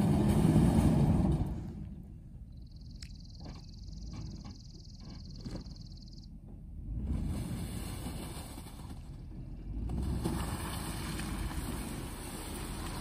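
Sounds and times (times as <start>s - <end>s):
engine running at low speed: 0.0s - 13.0s
tires churning in snow: 0.0s - 13.0s.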